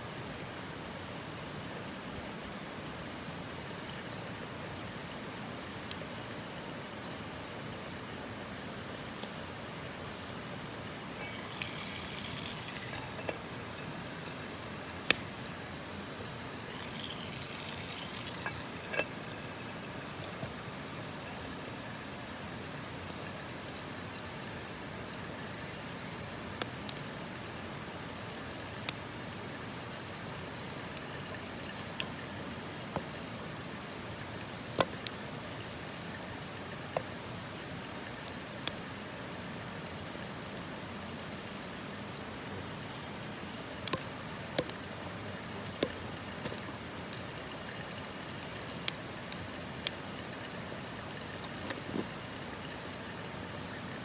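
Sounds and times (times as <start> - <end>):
campfire crackling: 0.2 - 54.0.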